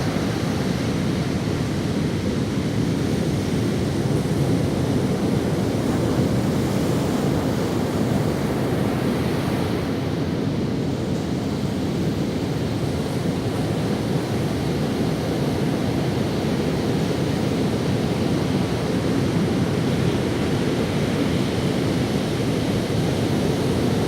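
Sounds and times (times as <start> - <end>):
ocean waves on sandy beach: 0.0 - 24.0
wind: 0.0 - 24.0.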